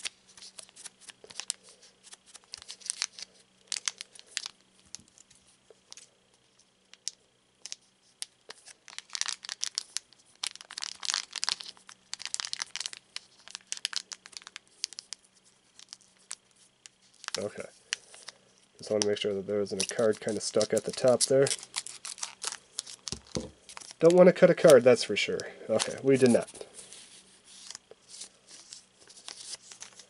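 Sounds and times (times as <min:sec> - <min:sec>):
foil wrapper crinkling: 0:00.0 - 0:06.1, 0:06.9 - 0:30.0.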